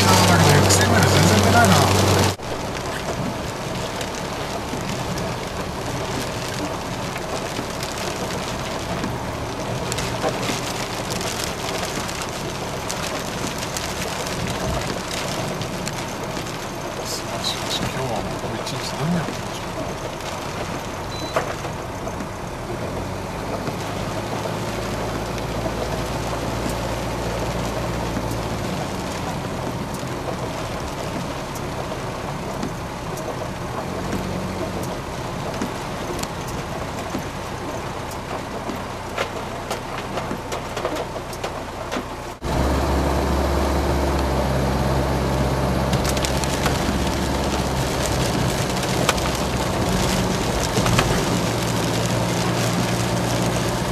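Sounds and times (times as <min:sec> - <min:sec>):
car engine drone: 0:00.0 - 0:53.9
tyres hissing on wet road: 0:00.0 - 0:53.9.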